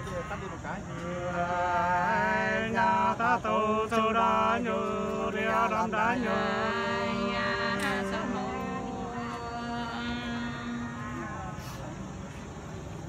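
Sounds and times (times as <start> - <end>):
two men singing unaccompanied: 0.0 - 12.6.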